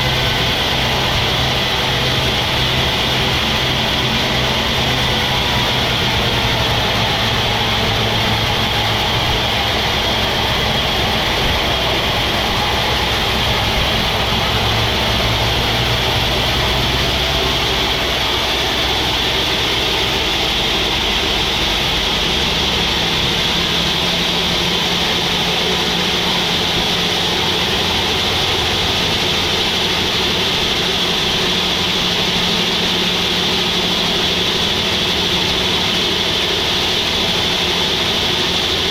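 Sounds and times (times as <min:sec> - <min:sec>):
sawmill engine drone: 0:00.0 - 0:38.9.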